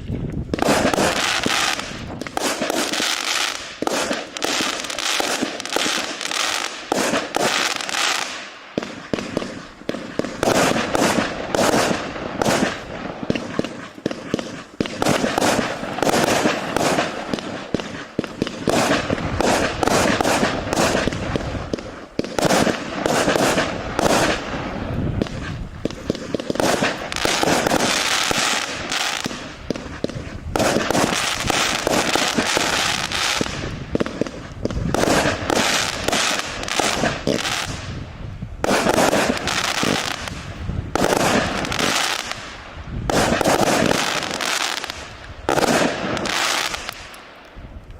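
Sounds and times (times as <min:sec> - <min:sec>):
fireworks shots and bursts: 0:00.0 - 0:47.9.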